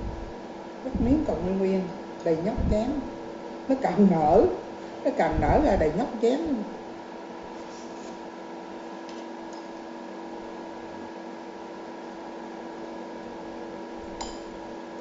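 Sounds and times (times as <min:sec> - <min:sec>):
fan-like hiss: 0:00.0 - 0:15.0
induction cooktop humming: 0:00.0 - 0:15.0.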